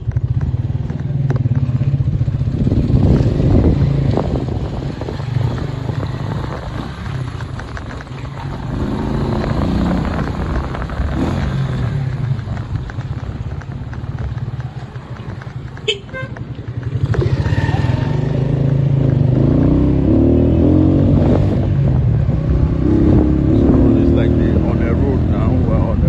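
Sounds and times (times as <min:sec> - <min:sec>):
road noise: 0:00.0 - 0:26.0
vehicle engine: 0:00.0 - 0:26.0.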